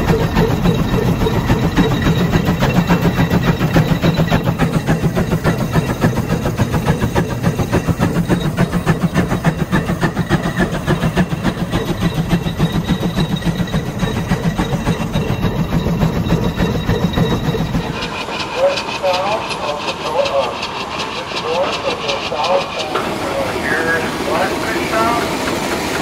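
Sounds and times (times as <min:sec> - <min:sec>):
running gear clatter: 0:00.0 - 0:26.0
steam engine exhaust chuffing: 0:00.0 - 0:26.0.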